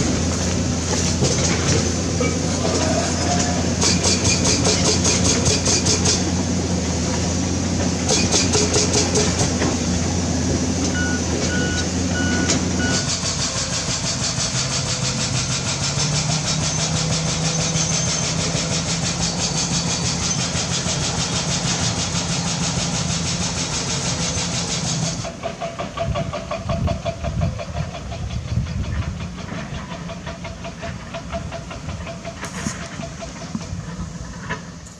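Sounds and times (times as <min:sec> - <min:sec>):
heavy machinery diesel engines: 0:00.0 - 0:34.9.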